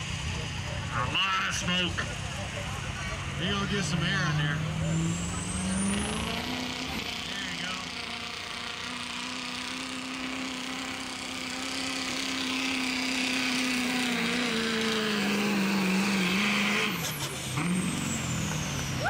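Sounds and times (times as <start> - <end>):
diesel engine at full throttle: 0.0 - 19.0.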